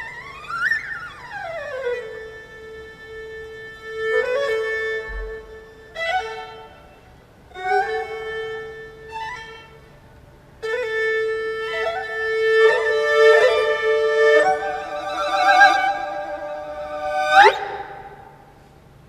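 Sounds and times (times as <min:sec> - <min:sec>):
two-string fiddle playing: 0:00.0 - 0:10.0, 0:10.6 - 0:18.5.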